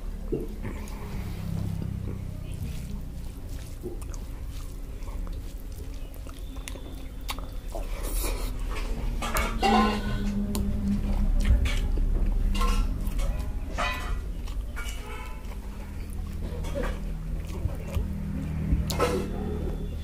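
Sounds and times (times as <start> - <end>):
hand mixing rice on plate: 0.0 - 19.4
wet chewing: 0.0 - 20.0.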